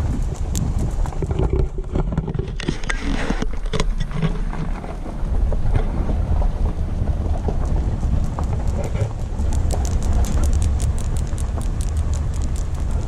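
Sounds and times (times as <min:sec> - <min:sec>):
small knocks and crackles: 0:00.0 - 0:06.0, 0:07.2 - 0:13.0
wind buffeting microphone: 0:00.0 - 0:13.0.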